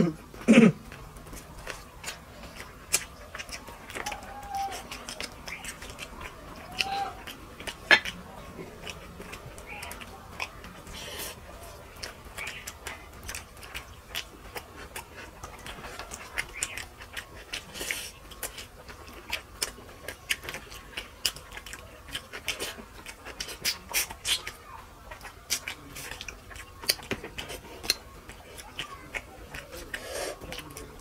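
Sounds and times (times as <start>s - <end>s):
wet chewing and lip smacks: 0.1s - 31.0s.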